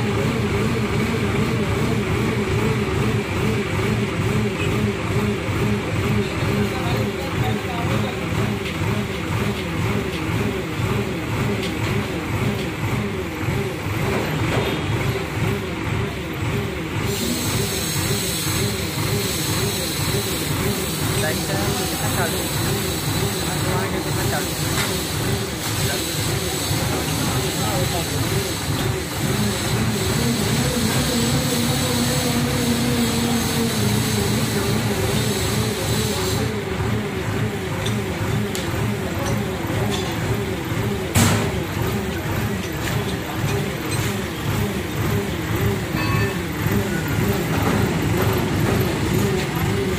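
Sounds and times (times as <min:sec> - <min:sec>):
diesel engine pulsing drone: 0:00.0 - 0:49.9.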